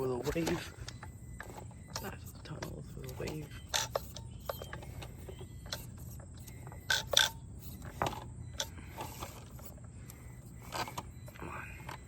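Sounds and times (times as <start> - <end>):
toy car gear hum: 0.0 - 12.0.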